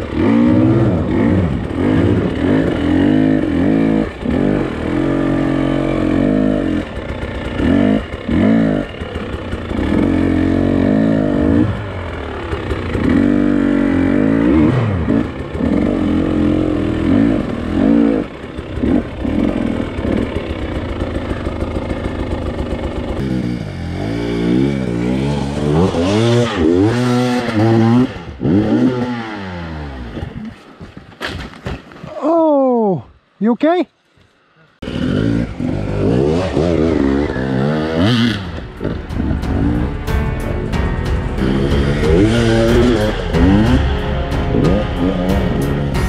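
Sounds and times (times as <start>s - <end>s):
dirt bike engine revving: 0.0s - 30.4s, 34.8s - 46.0s.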